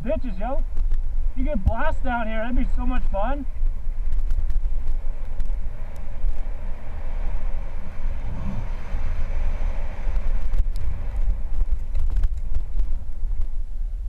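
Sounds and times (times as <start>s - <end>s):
bike rattling over bumps: 0.0s - 14.0s
tyres humming on dirt: 0.0s - 14.0s
wind buffeting microphone: 0.0s - 14.0s.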